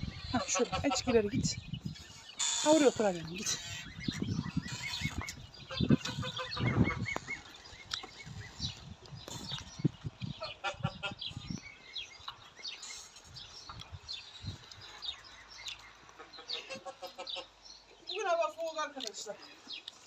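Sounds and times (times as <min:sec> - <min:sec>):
young poultry peeping: 0:00.0 - 0:20.0.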